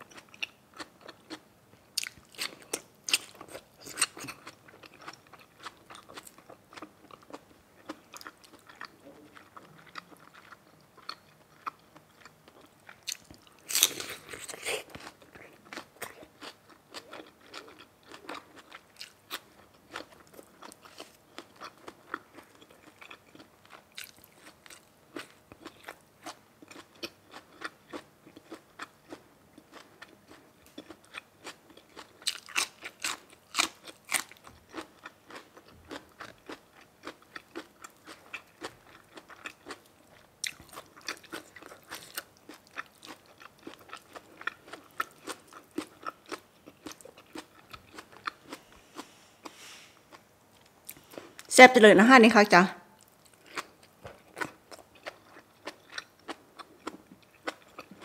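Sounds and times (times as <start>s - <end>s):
person chewing crunchy food: 0.0s - 51.5s, 53.0s - 58.0s.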